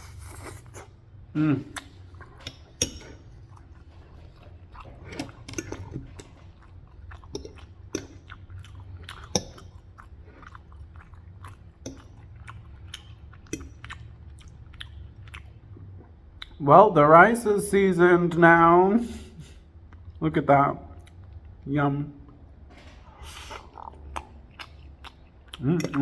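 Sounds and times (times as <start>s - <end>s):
person chewing food: 0.0s - 16.6s, 19.5s - 20.2s, 20.9s - 21.6s, 22.2s - 26.0s.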